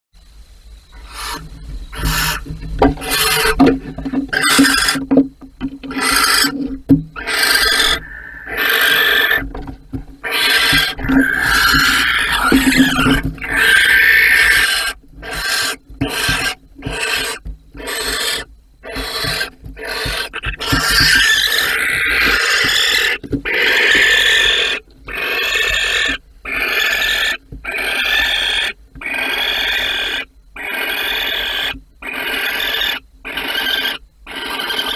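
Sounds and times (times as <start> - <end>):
owls hissing: 0.9 - 5.0, 5.9 - 9.5, 10.2 - 34.9.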